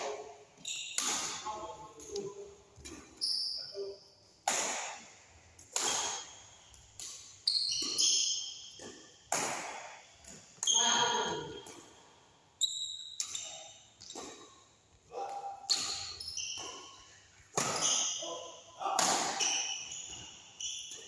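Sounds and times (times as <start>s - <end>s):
rackets hitting shuttlecock: 0.0s - 3.2s, 4.4s - 12.0s, 13.2s - 14.6s, 15.3s - 18.2s, 18.8s - 21.0s.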